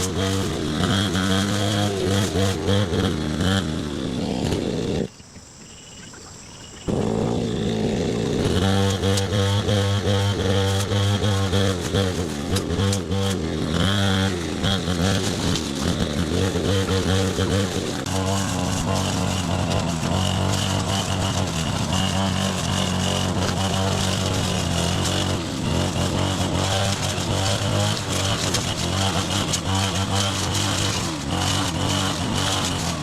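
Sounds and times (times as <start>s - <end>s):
small engine running: 0.0s - 5.2s, 6.8s - 33.0s.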